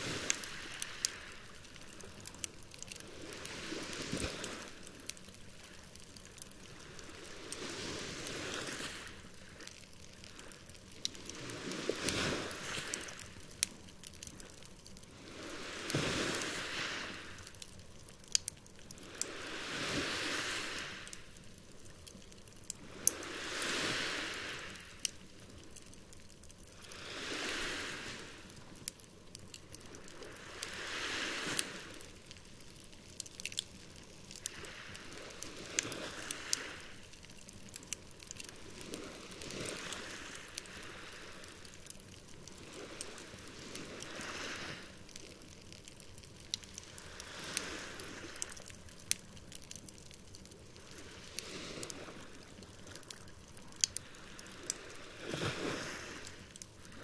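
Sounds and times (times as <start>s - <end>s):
campfire crackling and popping: 0.0s - 57.0s
small waves washing onto shore: 0.0s - 57.0s.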